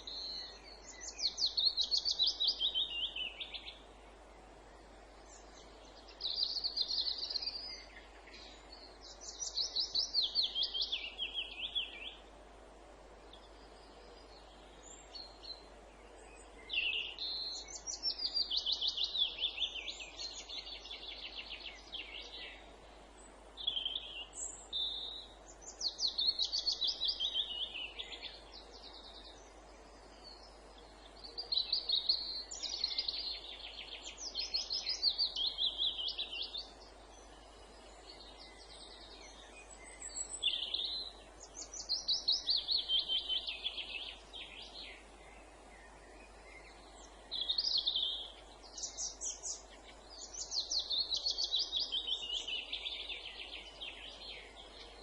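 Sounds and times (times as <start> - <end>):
faint steady hiss: 0.0 - 55.0
songbird singing: 0.0 - 55.0.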